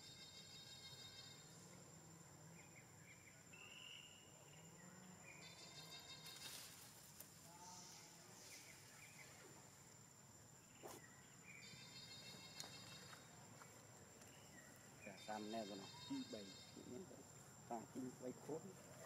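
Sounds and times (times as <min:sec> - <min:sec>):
insect buzzing: 0:00.0 - 0:18.2.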